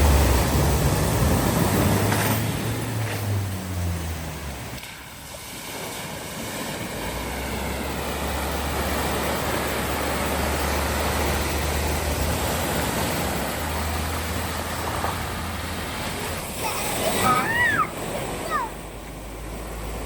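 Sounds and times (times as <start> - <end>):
vehicle engine hum: 0.0 - 20.0
water rushing: 0.0 - 20.0.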